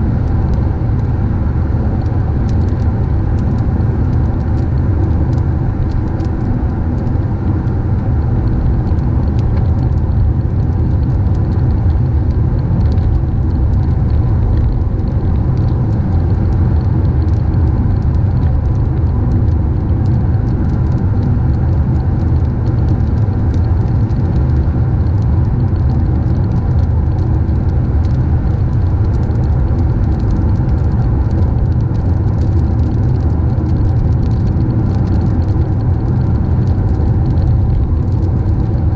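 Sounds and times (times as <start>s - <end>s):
car engine and tyres rumbling: 0.0s - 35.2s.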